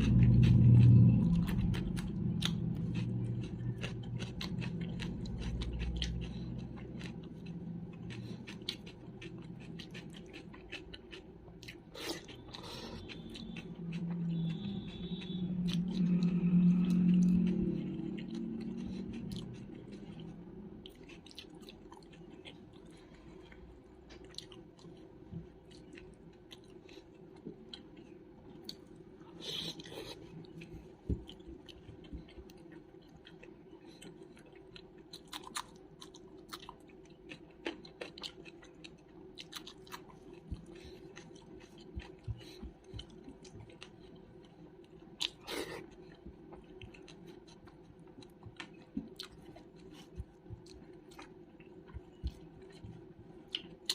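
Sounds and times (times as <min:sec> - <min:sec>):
faint steady hum: 0:00.0 - 0:53.9
person chewing food: 0:00.0 - 0:53.9.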